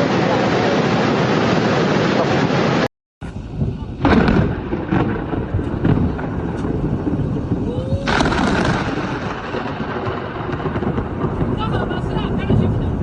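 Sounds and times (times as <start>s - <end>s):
rain hissing: 0.0s - 13.0s
thunder rumbling: 0.0s - 13.0s.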